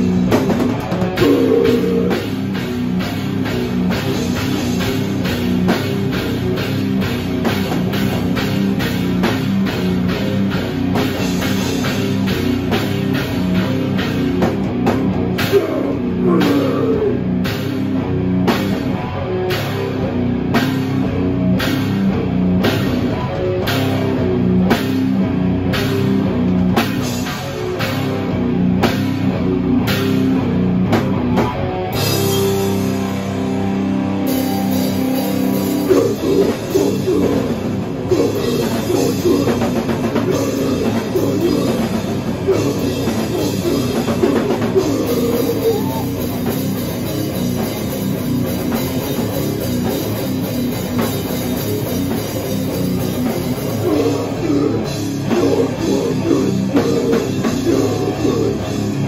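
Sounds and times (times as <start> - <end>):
live heavy metal band: 0.0 - 59.0.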